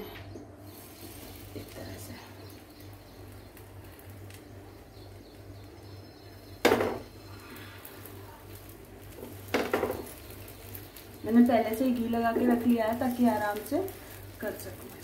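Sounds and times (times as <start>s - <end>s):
bread set on hot griddle: 0.0s - 15.0s
low steady hum: 0.0s - 15.0s.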